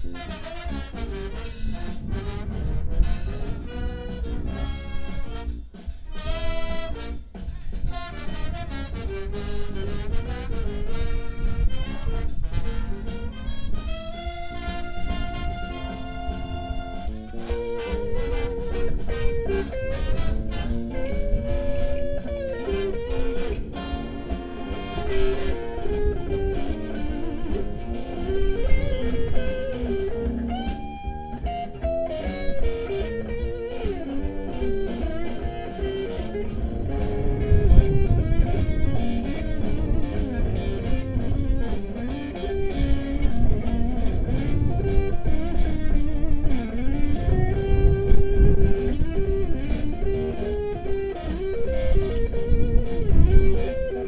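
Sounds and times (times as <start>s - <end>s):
lead guitar with string bends: 0.0s - 54.0s
live blues band playing: 0.0s - 54.0s.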